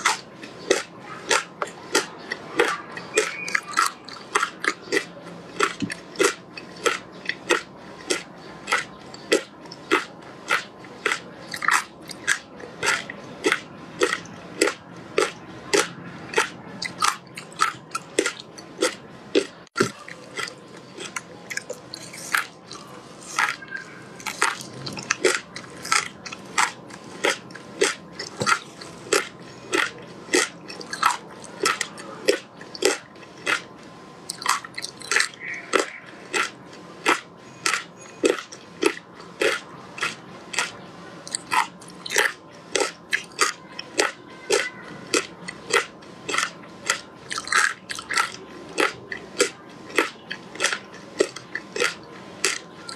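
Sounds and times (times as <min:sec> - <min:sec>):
frozen fruit crunched by teeth: 0:00.0 - 0:33.7, 0:34.3 - 0:52.9.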